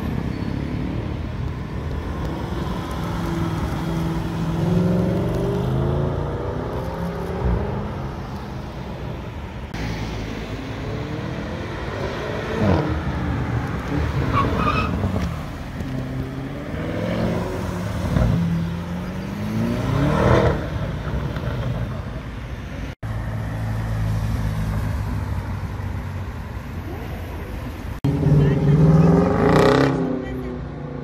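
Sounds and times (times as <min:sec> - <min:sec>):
car engines accelerating: 0:00.0 - 0:31.0.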